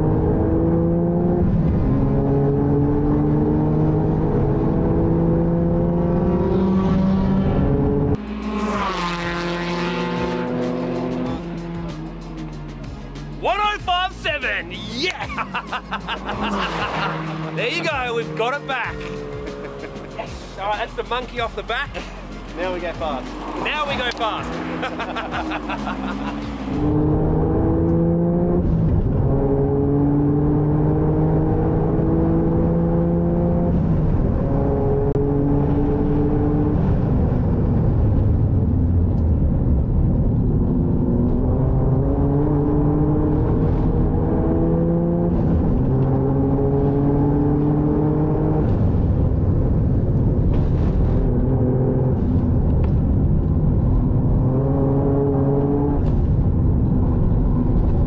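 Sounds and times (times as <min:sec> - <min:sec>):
car engine accelerating: 0:00.0 - 0:13.4, 0:15.1 - 0:58.0.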